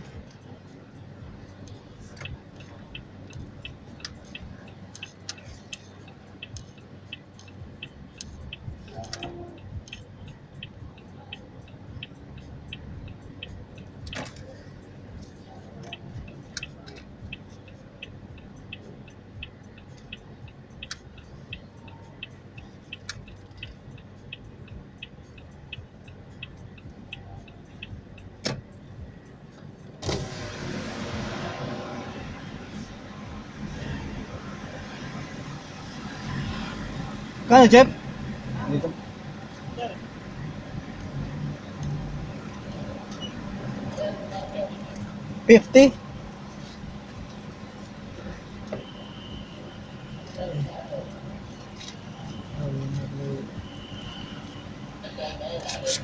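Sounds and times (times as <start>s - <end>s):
light ticking: 0.0s - 30.0s, 37.3s - 55.0s
car engine and road rumble: 0.0s - 56.0s.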